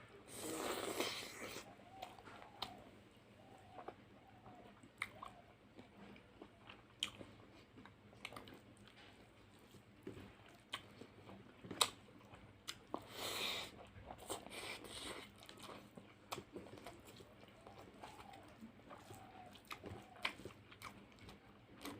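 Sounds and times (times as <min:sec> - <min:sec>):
wet chewing and lip smacks: 0:01.0 - 0:21.9.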